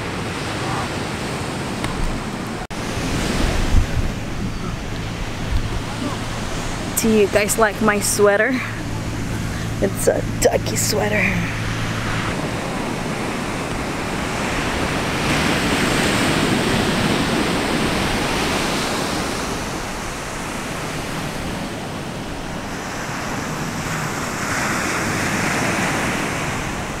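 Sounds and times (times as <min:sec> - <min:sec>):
ocean surf breaking on beach: 0:00.0 - 0:27.0.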